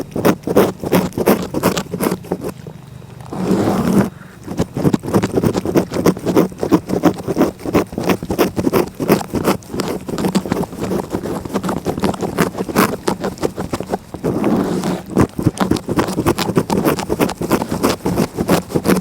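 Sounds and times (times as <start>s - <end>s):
cat licking: 0.0s - 19.0s.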